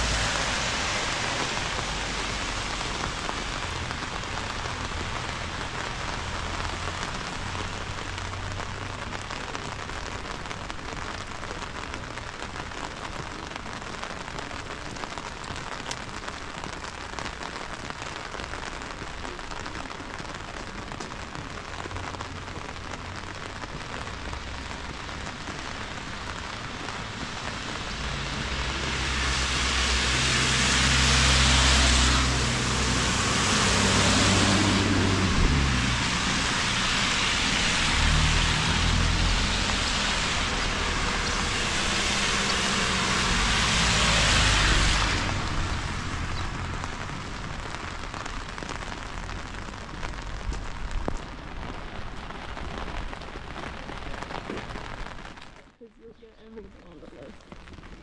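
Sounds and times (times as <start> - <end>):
steady rain hiss: 0.0 - 58.0
vehicle tyres on wet road: 0.0 - 58.0.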